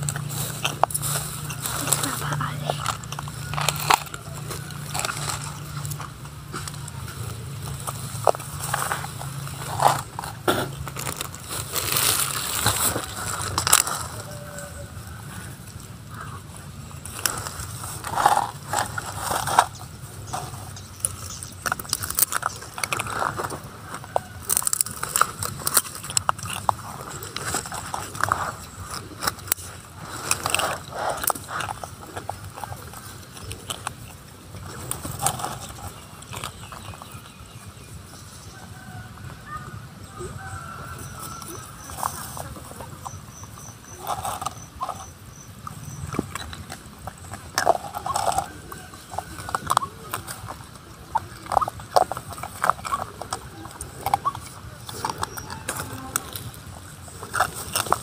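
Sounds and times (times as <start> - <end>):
plastic cup rattling: 0.0 - 14.6, 17.0 - 37.8, 41.1 - 58.0
monkeys handling dry grass: 0.0 - 58.0.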